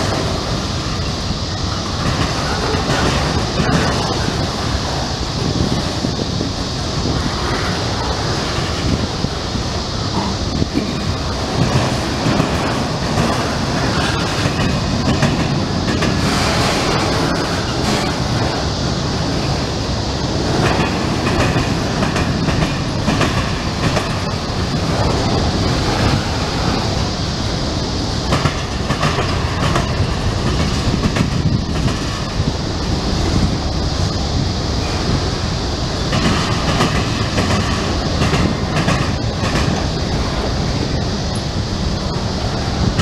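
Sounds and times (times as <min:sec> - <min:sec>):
train wheels rumbling on rail: 0:00.0 - 0:43.0
wheels clacking over rail joints: 0:00.0 - 0:43.0.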